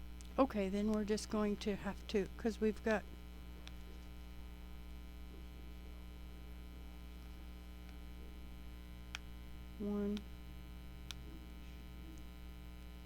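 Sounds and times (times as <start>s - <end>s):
low electrical mains hum: 0.0s - 13.0s.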